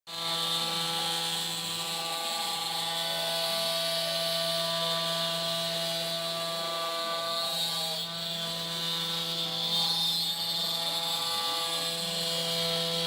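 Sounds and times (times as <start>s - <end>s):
cnc router motors whining: 0.1s - 13.0s.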